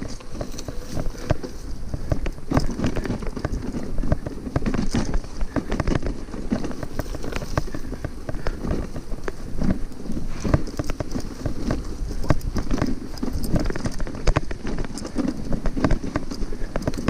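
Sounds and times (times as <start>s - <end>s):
bicycle frame rattling: 0.0s - 17.0s
tyres rumbling: 0.0s - 17.0s
wind on microphone: 0.0s - 17.0s.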